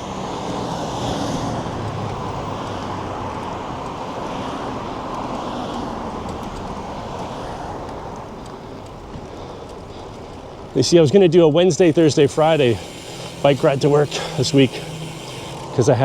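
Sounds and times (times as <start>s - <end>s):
wind rushing over microphone: 0.0s - 15.0s
road traffic: 0.0s - 16.0s.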